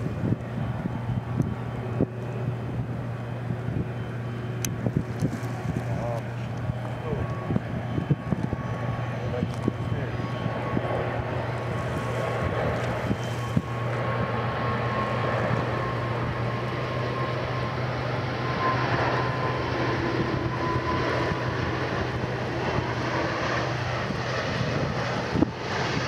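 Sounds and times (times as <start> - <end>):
distant jet roar with high whine: 0.0 - 26.0.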